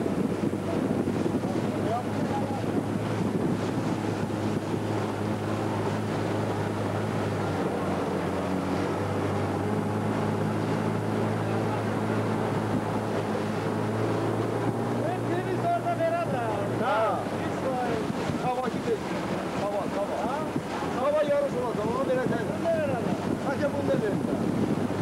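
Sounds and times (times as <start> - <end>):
boat motor running: 0.0 - 25.0
wind buffeting microphone: 0.0 - 25.0.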